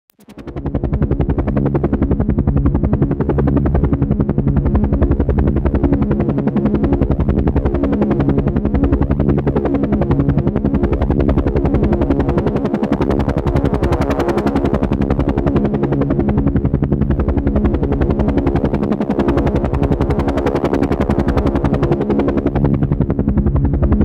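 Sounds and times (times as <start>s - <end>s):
helicopter rotor chopping: 0.2s - 24.0s
turbine drone: 0.2s - 24.0s.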